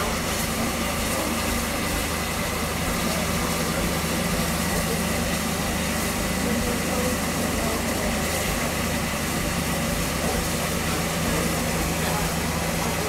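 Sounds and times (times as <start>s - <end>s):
hiss of escaping steam: 0.0s - 13.0s.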